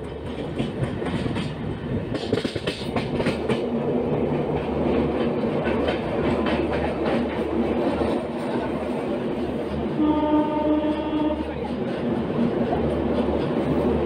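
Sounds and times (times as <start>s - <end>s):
wheels clacking over track joints: 0.0s - 9.9s, 11.1s - 14.0s
train rumble: 0.0s - 14.0s.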